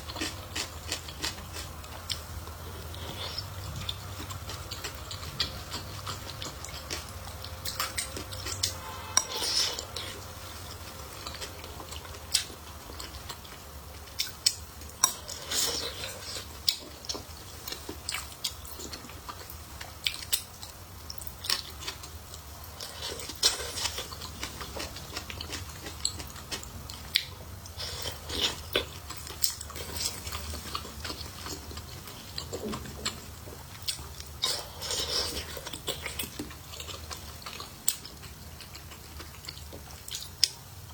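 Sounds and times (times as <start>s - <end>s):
chewing and biting: 0.0s - 40.9s.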